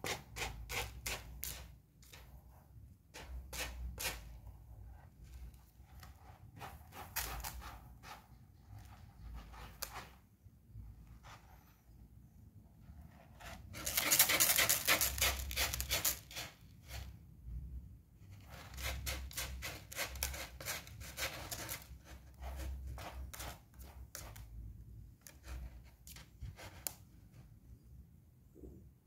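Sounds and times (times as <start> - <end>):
kitten scratching in cat litter: 0.0 - 11.9, 12.8 - 17.3, 18.2 - 27.5.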